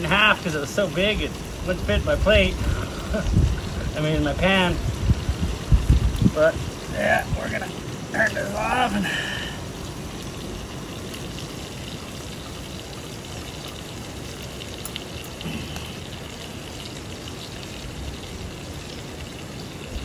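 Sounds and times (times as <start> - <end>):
fish sizzling in a frying pan: 0.0 - 20.0.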